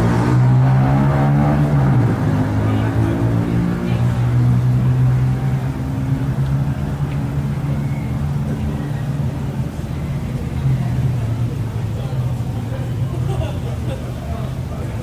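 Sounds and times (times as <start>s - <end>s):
road noise hiss: 0.0s - 15.0s
vehicle engine humming: 0.0s - 15.0s.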